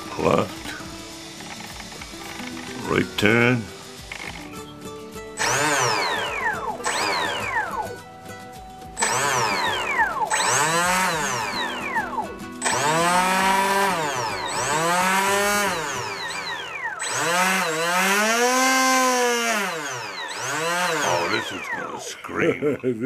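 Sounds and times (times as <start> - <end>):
electric motor whining: 0.0 - 22.2.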